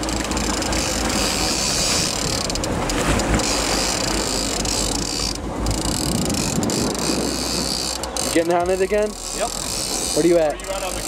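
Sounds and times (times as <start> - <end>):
boat noise: 0.0 - 11.0
fishing reel ratcheting clicks: 0.0 - 11.0
wind: 0.0 - 11.0.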